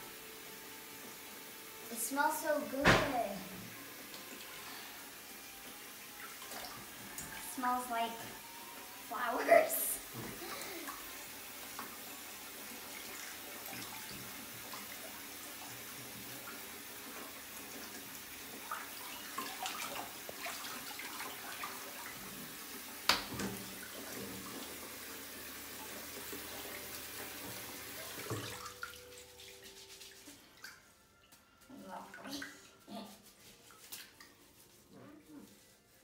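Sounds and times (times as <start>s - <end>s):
bathwater sloshing and splashing: 5.6s - 8.4s, 9.1s - 36.0s.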